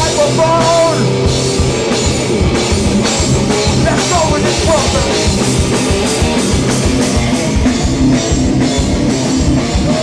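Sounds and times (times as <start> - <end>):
heavy guitars: 0.0 - 10.0
steady drum beat: 0.0 - 10.0.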